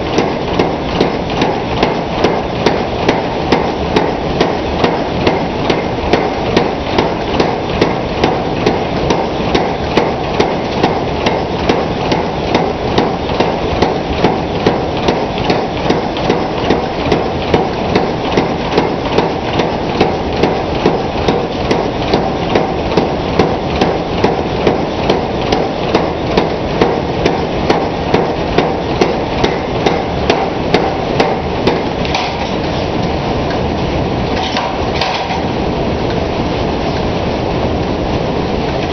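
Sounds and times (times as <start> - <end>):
power hammer striking hot iron: 0.0 - 32.9, 34.3 - 36.2
machine running noise: 0.0 - 38.9.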